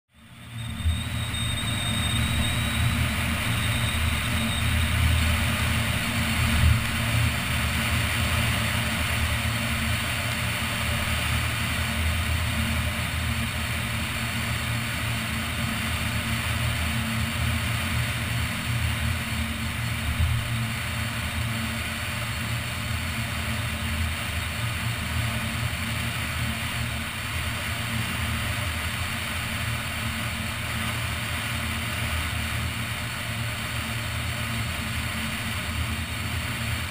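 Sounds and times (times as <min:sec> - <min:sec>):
wind and engine rumble: 0:00.3 - 0:36.9
tyres hissing on wet road: 0:00.4 - 0:36.9.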